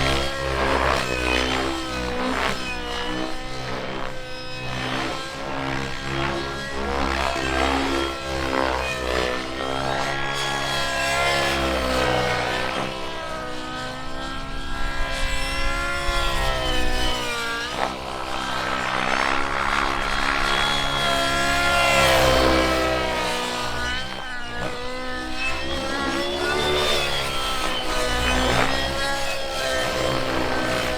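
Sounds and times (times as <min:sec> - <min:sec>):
model aircraft nitro engine: 0:00.0 - 0:30.9.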